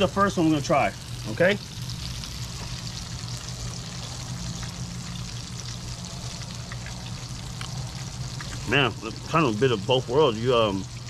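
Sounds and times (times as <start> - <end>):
fish sizzling in oil: 0.0 - 11.0
low hum: 1.0 - 11.0.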